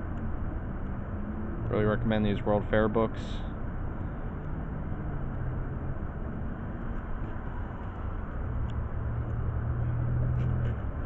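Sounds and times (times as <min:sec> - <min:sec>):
low engine hum: 0:00.0 - 0:11.0
road traffic rumble: 0:00.0 - 0:11.0.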